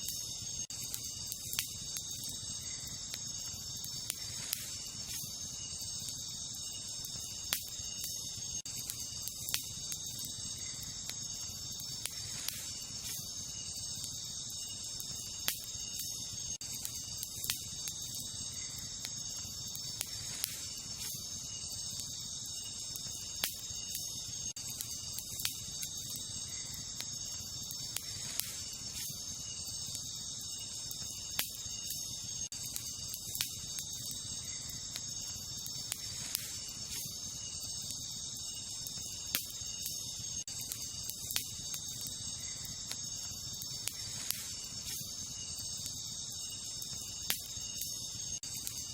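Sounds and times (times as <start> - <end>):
campfire crackling and popping: 0.0 - 48.9
crickets chirping: 0.0 - 48.9.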